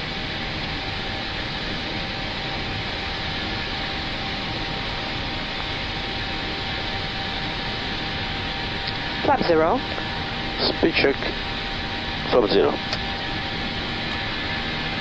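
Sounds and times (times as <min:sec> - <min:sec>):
aircraft engines humming: 0:00.0 - 0:15.0.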